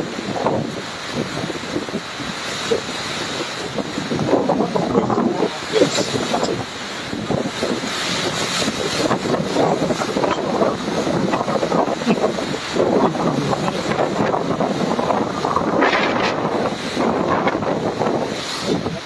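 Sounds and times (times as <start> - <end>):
driving rain: 0.0 - 19.0
strong wind gusts: 0.0 - 19.0
wind buffeting microphone: 0.0 - 19.0.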